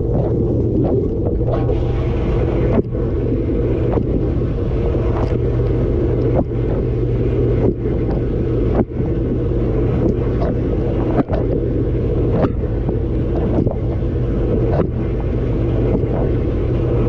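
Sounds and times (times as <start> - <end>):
dishwasher pump humming: 0.0 - 17.0
water splashes: 0.0 - 17.0.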